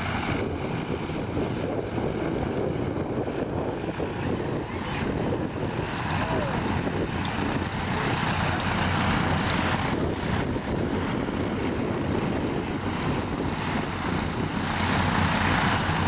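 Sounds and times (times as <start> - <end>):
propeller aircraft engine drone: 0.0 - 16.0.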